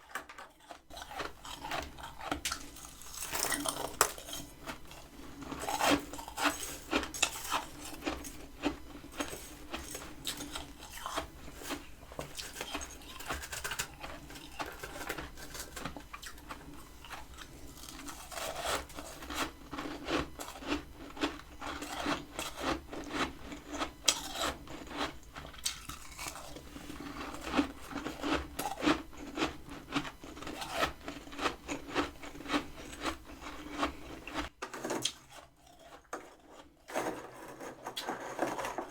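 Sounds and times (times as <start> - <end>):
frost being chewed crunching: 0.0 - 36.8.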